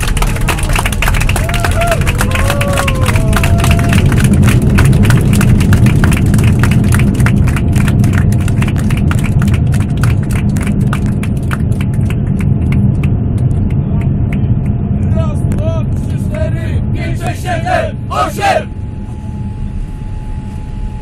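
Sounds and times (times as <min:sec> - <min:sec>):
passengers clapping: 0:00.0 - 0:18.6
airplane cabin low rumble: 0:00.0 - 0:21.0.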